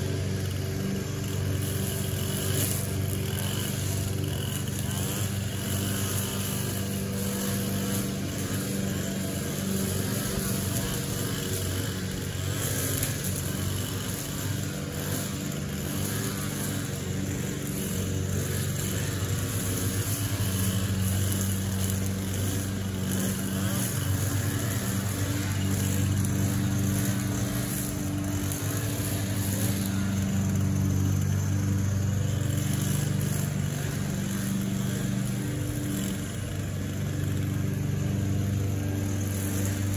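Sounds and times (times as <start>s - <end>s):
string trimmer engine running: 0.0s - 39.9s.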